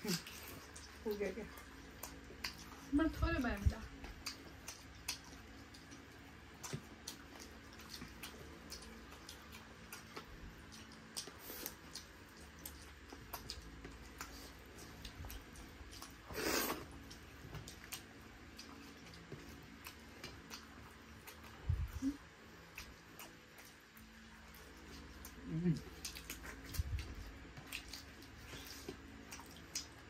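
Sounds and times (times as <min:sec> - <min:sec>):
chewing with clicks and smacks: 0:00.0 - 0:30.0.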